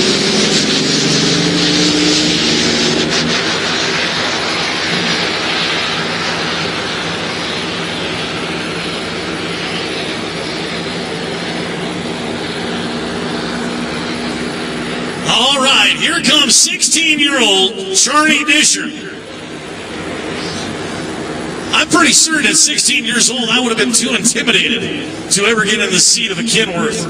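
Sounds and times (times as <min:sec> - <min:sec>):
diesel truck engine running: 0:00.0 - 0:27.0
loud rushing noise: 0:00.0 - 0:27.0.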